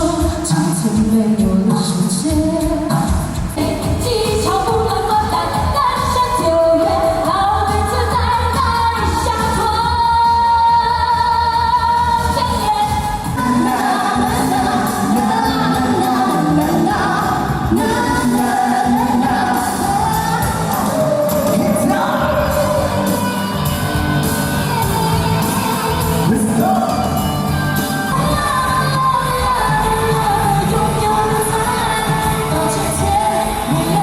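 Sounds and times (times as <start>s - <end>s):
backing music: 0.0s - 34.0s
person singing pop song: 0.0s - 34.0s.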